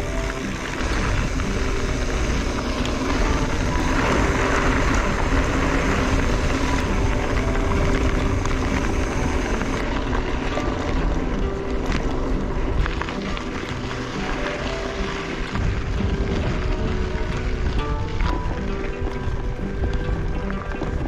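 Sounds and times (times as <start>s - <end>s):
bike tyres rolling on gravel: 0.0s - 21.0s
wind rushing over microphone: 0.0s - 21.0s.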